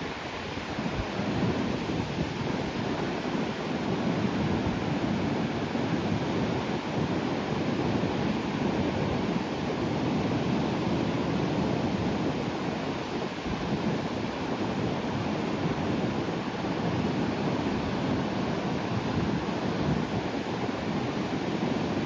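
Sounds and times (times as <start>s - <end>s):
sea surf rushing on shore: 0.0s - 22.0s.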